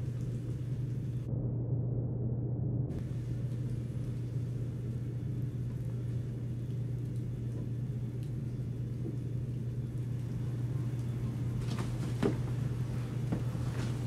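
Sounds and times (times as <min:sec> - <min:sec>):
faint rumble: 0:00.0 - 0:14.0
steady low hum: 0:00.0 - 0:14.0.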